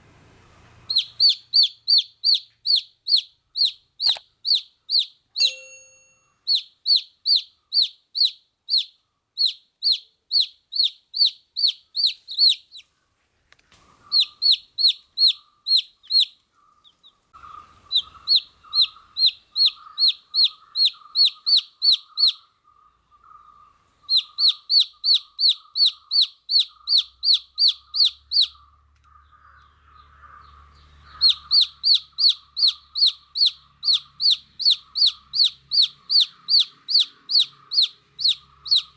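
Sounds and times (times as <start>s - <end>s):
baby chicks peeping: 0.8s - 12.9s, 13.6s - 38.9s
soft low chattering call: 0.9s - 13.0s, 13.6s - 38.9s.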